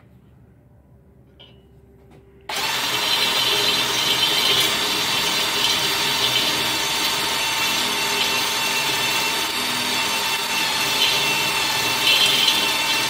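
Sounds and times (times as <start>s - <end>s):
cordless drill grinding metal: 2.5s - 13.0s.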